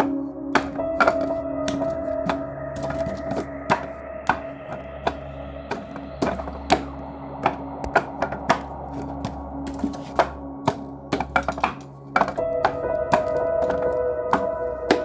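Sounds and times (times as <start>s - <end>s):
music drone: 0.0s - 15.0s
sharp wooden knocks: 0.0s - 15.0s.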